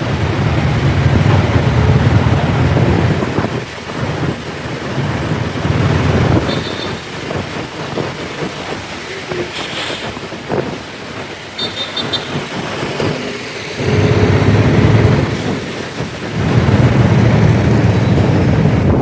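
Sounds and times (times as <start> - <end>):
motorcycle road noise rumble: 0.0 - 19.0
wind rushing over microphone: 0.0 - 19.0.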